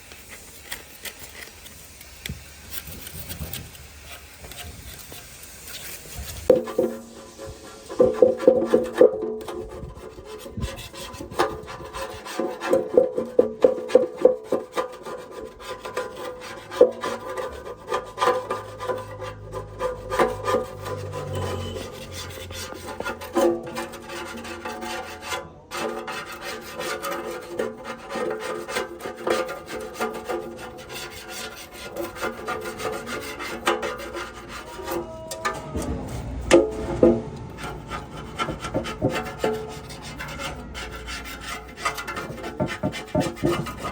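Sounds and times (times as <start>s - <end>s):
hand tool rasping on metal: 4.0s - 35.9s, 36.8s - 43.9s.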